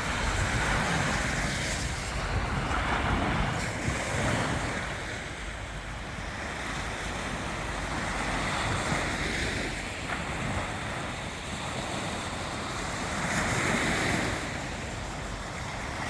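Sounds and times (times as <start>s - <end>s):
sea waves breaking on beach: 0.0s - 16.0s
wind on microphone: 0.0s - 16.0s.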